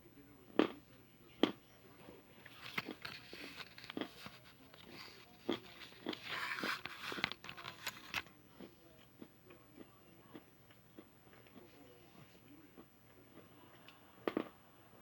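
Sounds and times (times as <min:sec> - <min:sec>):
crunchy food being chewed: 0:02.4 - 0:14.6.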